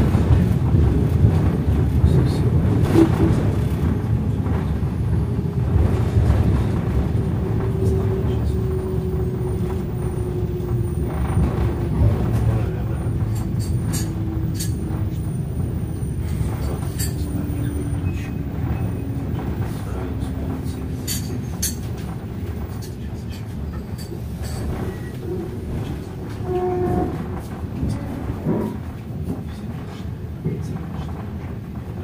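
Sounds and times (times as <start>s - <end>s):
train running on rails: 0.0s - 32.0s.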